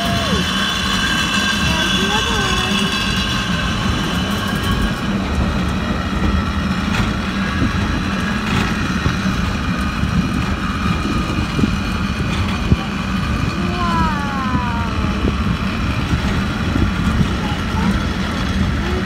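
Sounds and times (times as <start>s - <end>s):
cliff railway rumble and whine: 0.0s - 19.0s.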